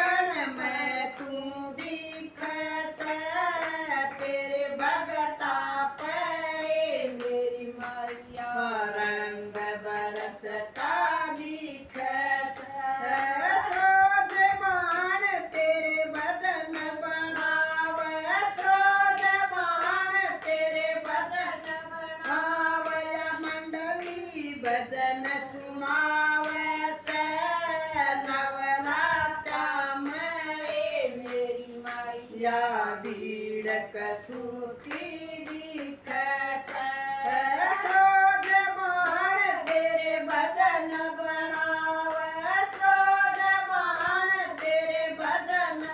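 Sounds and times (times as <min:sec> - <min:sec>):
women singing devotional song: 0:00.0 - 0:45.9
hand-clapping keeping time: 0:00.1 - 0:45.9.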